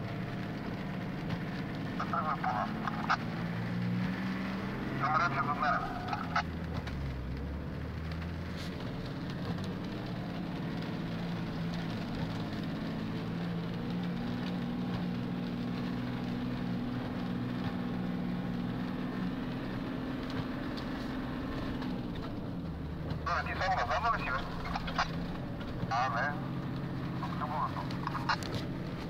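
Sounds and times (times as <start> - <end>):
engine droning inside cab: 0.0 - 29.0.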